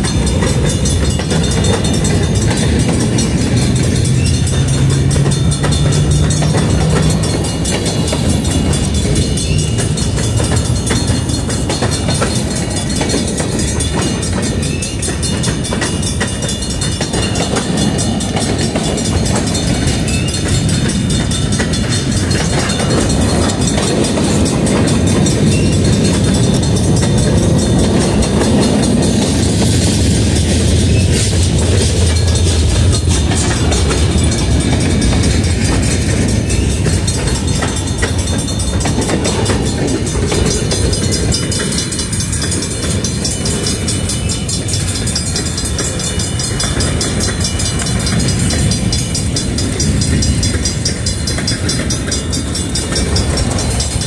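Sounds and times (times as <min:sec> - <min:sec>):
freight train running past: 0:00.0 - 0:54.0.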